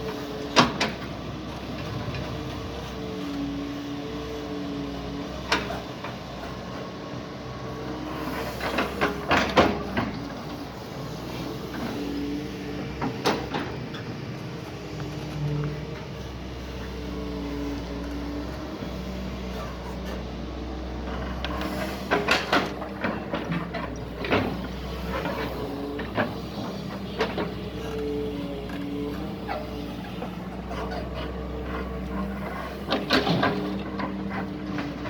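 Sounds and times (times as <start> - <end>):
excavator diesel engine: 0.0 - 35.0.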